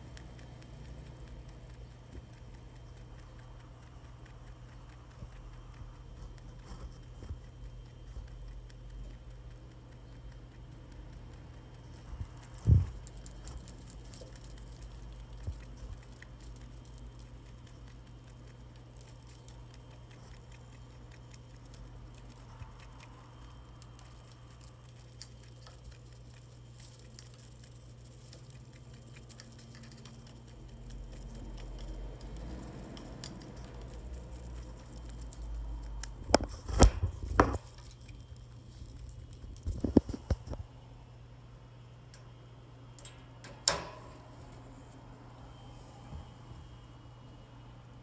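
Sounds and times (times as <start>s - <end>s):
rabbit pattering: 0.0s - 40.8s
low steady hum: 0.0s - 48.0s.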